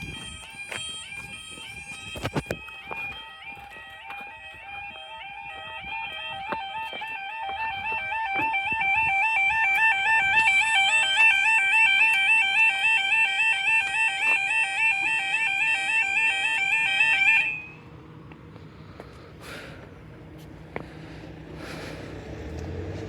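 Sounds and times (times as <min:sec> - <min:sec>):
two-tone crossing alarm: 0:00.0 - 0:20.9.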